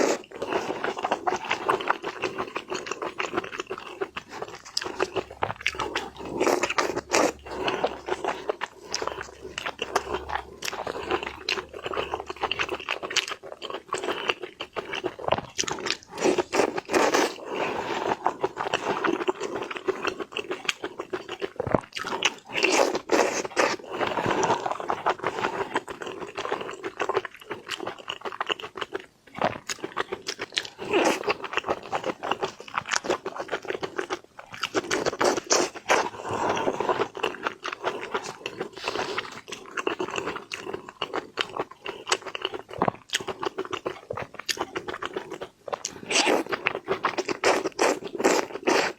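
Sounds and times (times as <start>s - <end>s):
chewing and crunching: 0.0s - 48.9s.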